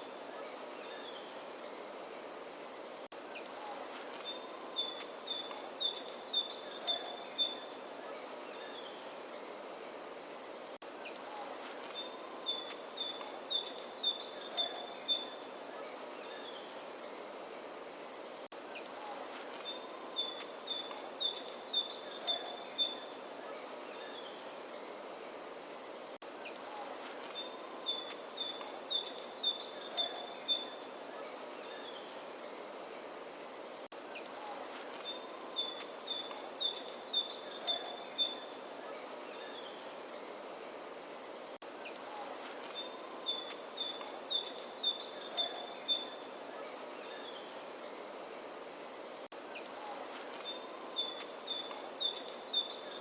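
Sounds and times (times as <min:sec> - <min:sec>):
songbird singing: 0:00.0 - 0:53.0
steady outdoor hiss: 0:00.0 - 0:53.0.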